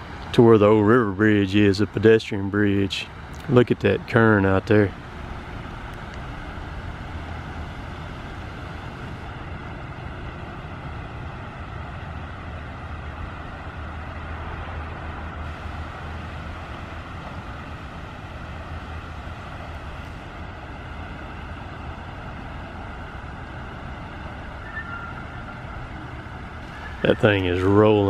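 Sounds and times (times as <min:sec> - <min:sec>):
river rushing: 0:04.4 - 0:28.0.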